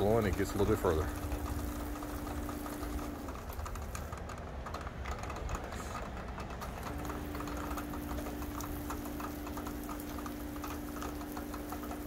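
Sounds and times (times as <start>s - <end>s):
pump humming: 0.0s - 12.0s
rapid light ticking: 0.0s - 12.0s.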